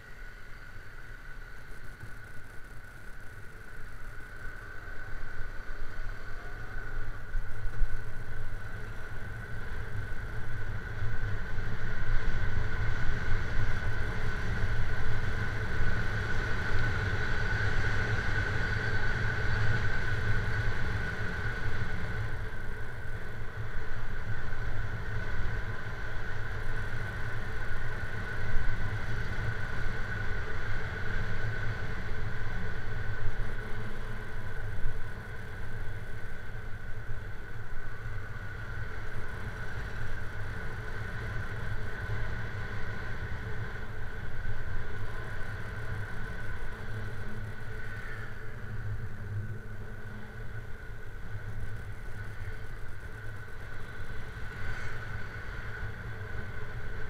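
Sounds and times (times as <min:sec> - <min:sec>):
motorcycle engine while riding: 0:00.0 - 0:57.0
steady high whine: 0:00.0 - 0:57.0.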